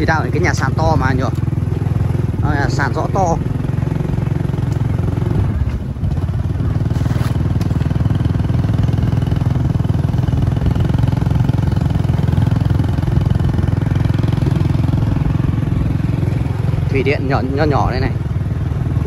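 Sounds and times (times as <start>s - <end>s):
small motorcycle engines running: 0.0s - 19.0s.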